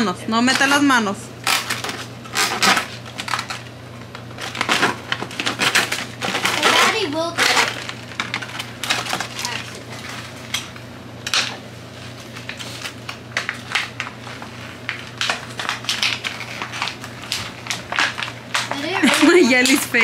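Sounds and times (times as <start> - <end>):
steady low hum: 0.0 - 20.0
plastic packaging crinkling: 1.4 - 20.0.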